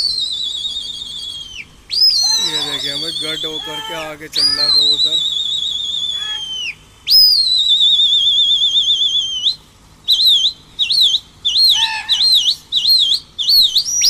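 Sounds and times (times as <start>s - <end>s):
person whistling loudly: 0.0s - 14.0s.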